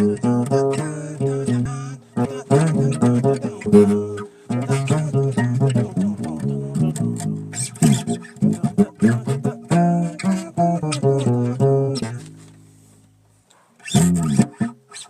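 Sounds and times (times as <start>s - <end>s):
bass guitar plucked notes: 0.0s - 13.2s, 13.9s - 14.9s.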